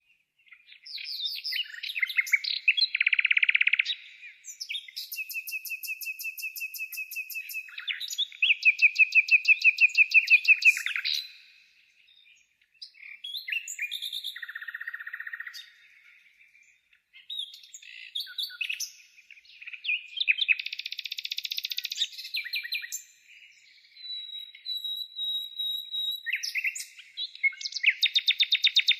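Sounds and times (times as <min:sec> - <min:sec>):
songbird singing trills: 0:00.0 - 0:28.9.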